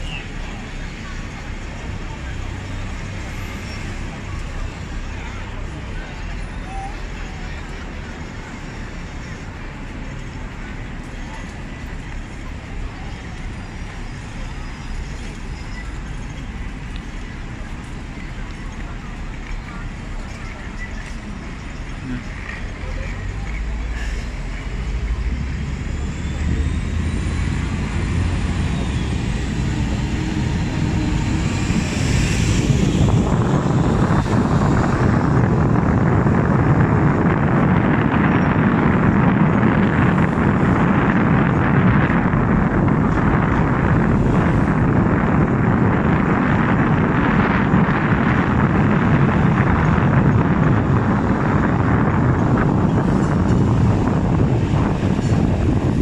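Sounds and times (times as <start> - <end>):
tram rumbling and rattling: 0.0 - 56.0.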